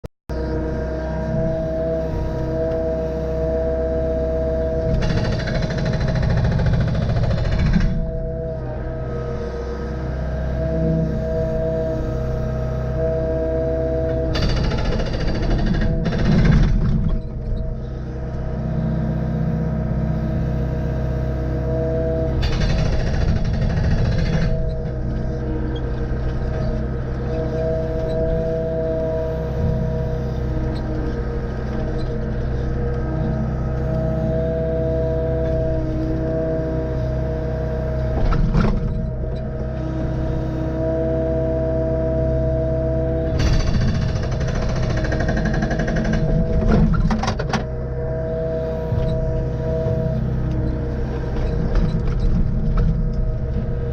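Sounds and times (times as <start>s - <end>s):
high whine: 0.3s - 53.9s
log splitter humming: 0.3s - 53.9s
small engine running: 0.4s - 53.9s.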